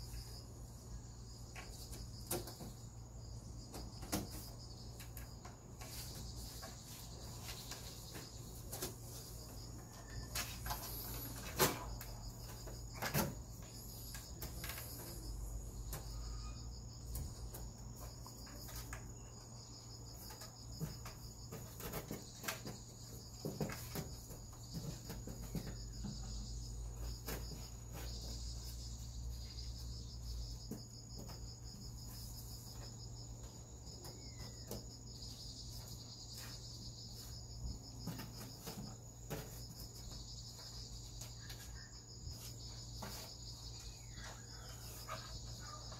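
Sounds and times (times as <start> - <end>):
crickets chirping: 0.0 - 45.9
light knocks and scratches: 3.6 - 16.4, 17.0 - 45.9.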